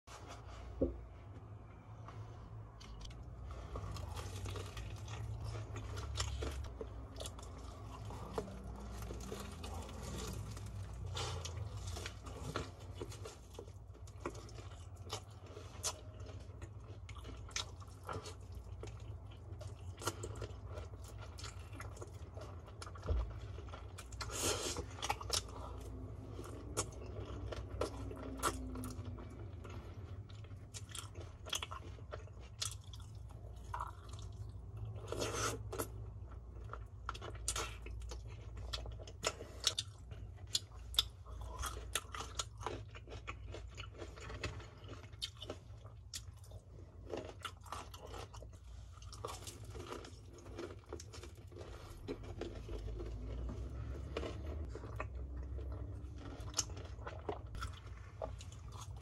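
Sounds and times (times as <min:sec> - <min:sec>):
chewing crispy fried chicken: 0:02.7 - 0:59.0.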